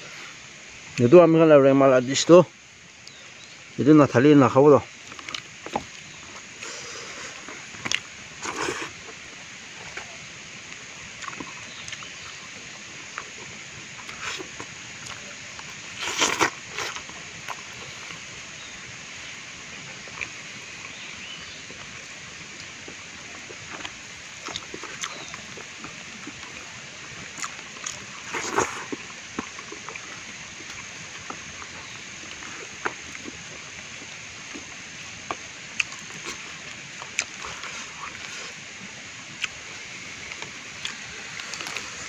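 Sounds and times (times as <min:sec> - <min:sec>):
outdoor hiss: 0:00.0 - 0:42.0
leaves crackling and rustling: 0:00.1 - 0:42.0.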